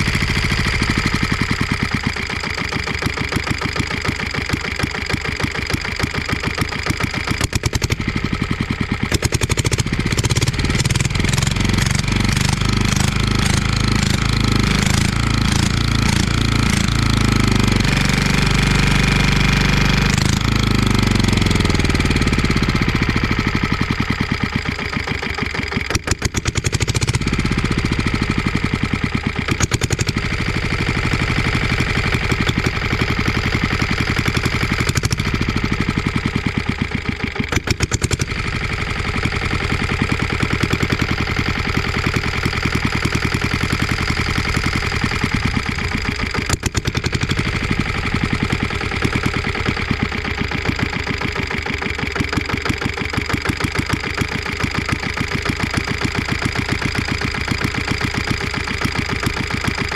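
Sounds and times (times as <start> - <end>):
single-cylinder engine running: 0.0 - 59.9.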